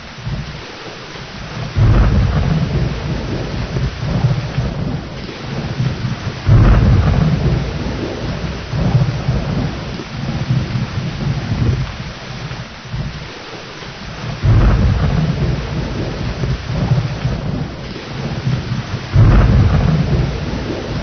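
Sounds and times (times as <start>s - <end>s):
rolling thunder: 0.0s - 13.4s, 14.1s - 21.0s
steady rain: 0.0s - 21.0s.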